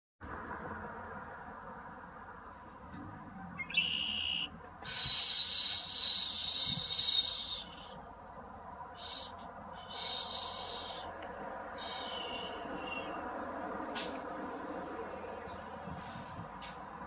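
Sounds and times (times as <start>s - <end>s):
low outdoor background: 0.2s - 17.0s.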